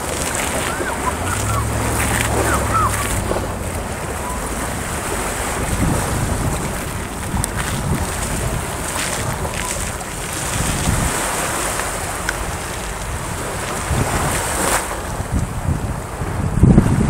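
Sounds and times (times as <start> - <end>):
small waves breaking on beach: 0.0 - 17.0
wind rumbling on microphone: 0.0 - 17.0.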